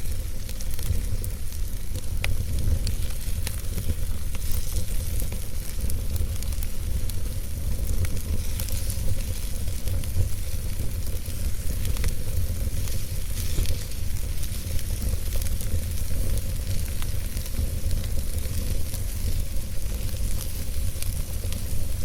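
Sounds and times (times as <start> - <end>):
burning wood crackling: 0.0 - 22.0
fire rumbling and hissing: 0.0 - 22.0.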